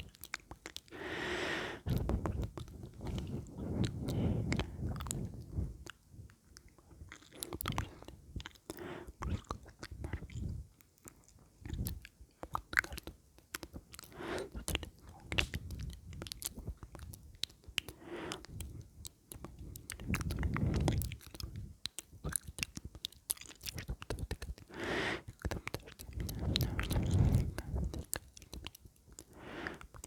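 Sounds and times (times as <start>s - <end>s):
wet mouth clicks and smacks: 0.0s - 1.0s, 1.8s - 30.0s.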